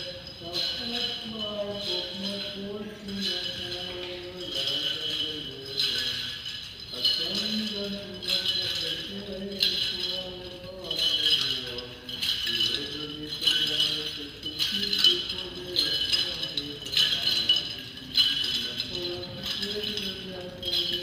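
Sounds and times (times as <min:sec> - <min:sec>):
censer bells jingling: 0:00.0 - 0:21.0
person chanting a hymn: 0:00.0 - 0:21.0.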